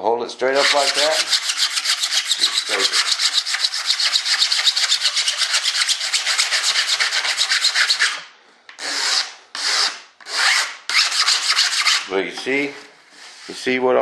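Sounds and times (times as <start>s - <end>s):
razor blade scraping resin: 0.5s - 12.1s.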